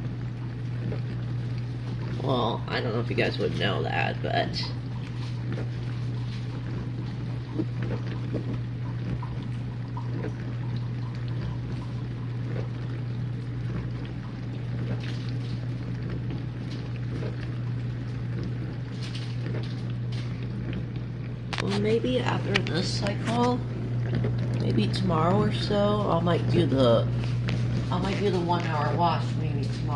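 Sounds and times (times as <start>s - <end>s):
dishwasher pump hum: 0.0s - 29.9s
water spraying and splashing: 0.0s - 29.9s.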